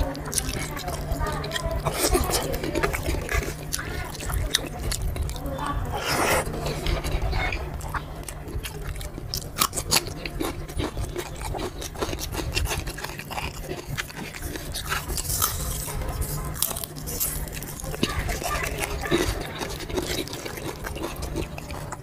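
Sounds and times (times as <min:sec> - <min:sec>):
chewing and wet mouth sounds: 0:00.0 - 0:22.0
steady low hum: 0:00.0 - 0:22.0.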